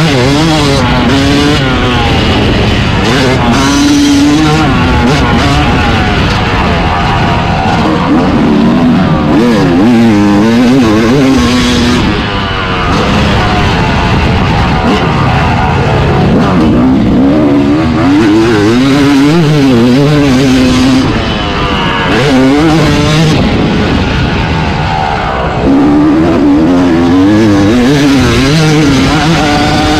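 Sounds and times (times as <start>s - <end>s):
two-stroke engine revving: 0.0s - 29.9s.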